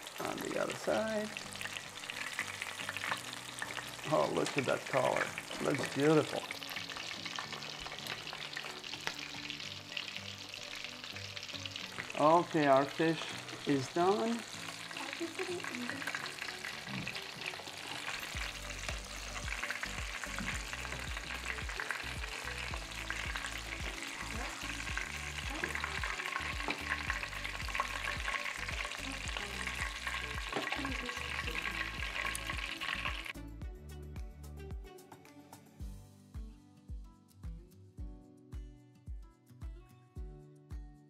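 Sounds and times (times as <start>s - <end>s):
fish frying in oil: 0.0s - 33.4s.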